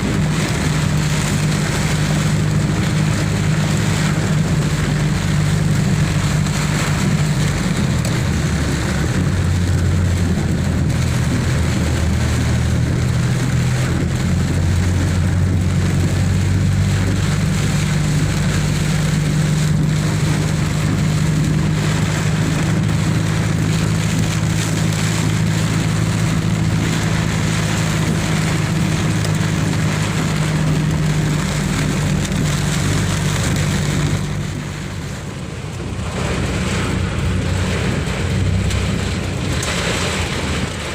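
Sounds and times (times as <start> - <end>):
heavy rain falling: 0.0 - 40.9
vehicle engine humming: 0.0 - 40.9.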